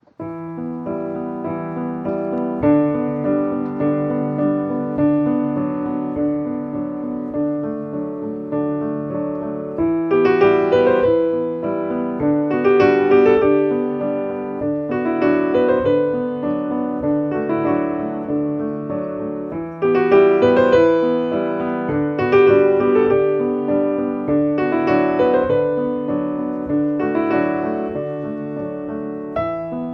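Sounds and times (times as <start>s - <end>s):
gentle piano music: 0.0s - 29.9s.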